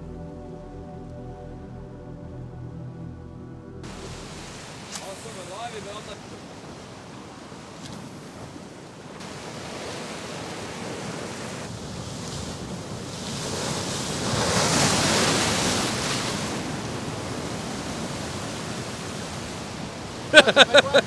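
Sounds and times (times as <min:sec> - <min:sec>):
ocean surf breaking on rocks: 0:03.8 - 0:21.0.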